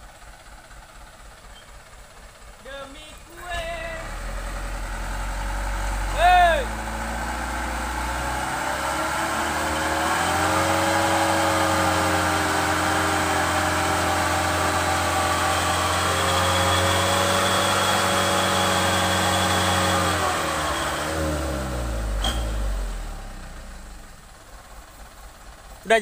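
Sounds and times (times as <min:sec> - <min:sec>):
truck engine revving: 0:02.6 - 0:25.1.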